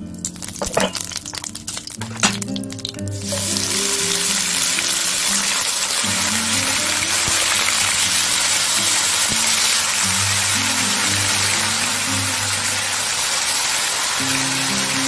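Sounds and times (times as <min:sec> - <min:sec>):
background music: 0:00.0 - 0:15.0
meat sizzling in a frying pan: 0:00.2 - 0:15.0.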